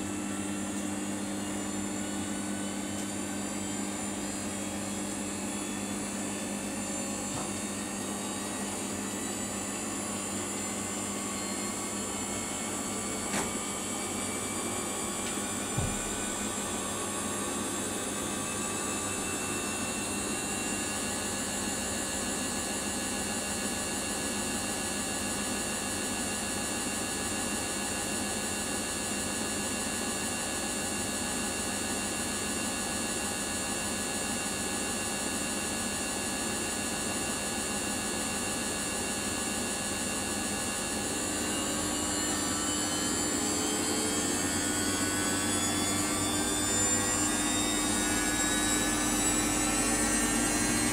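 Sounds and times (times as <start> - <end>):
washing machine motor whine: 0.0 - 50.9.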